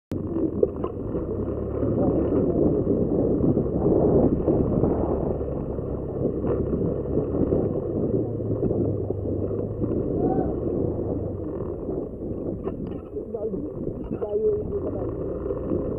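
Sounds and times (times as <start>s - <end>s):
motorcycle engine drone: 0.1s - 15.9s
wind rushing over microphone: 0.1s - 15.9s.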